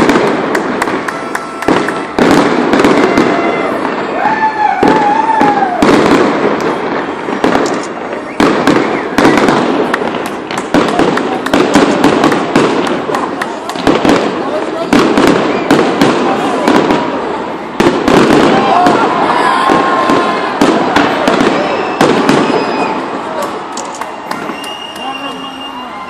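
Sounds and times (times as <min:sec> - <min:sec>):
firework whistle: 0:00.0 - 0:10.0, 0:15.0 - 0:26.0
fireworks bangs and crackling: 0:00.0 - 0:26.0.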